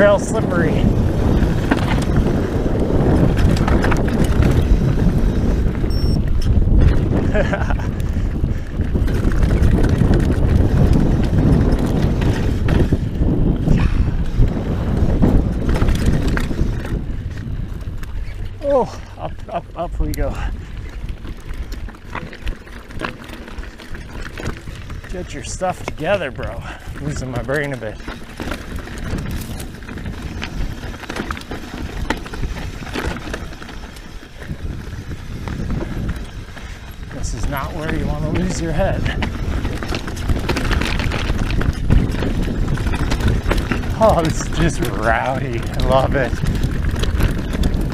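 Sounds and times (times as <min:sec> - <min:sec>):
bike rattling and knocking: 0:00.0 - 0:47.9
bike tyres on dirt trail: 0:00.0 - 0:47.9
wind rumble on microphone: 0:00.0 - 0:47.9.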